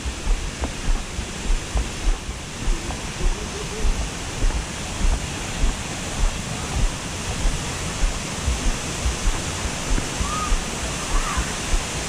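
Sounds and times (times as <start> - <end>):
footsteps on wooden boardwalk: 0.0 - 11.9
waterfall rushing: 0.0 - 12.0.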